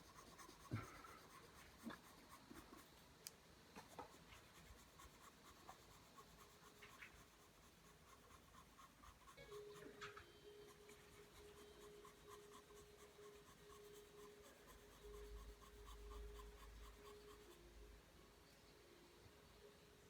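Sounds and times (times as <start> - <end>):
pencil strokes on paper: 0.0 - 18.1
faint steady hum: 0.0 - 20.0.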